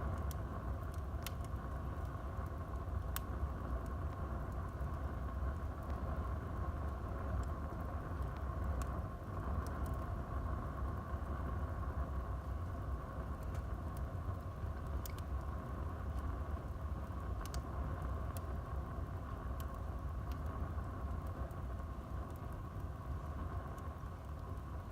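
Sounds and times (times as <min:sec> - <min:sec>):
burning wood crackles and pops: 0:00.0 - 0:24.9
fire flames rumbling: 0:00.0 - 0:24.9.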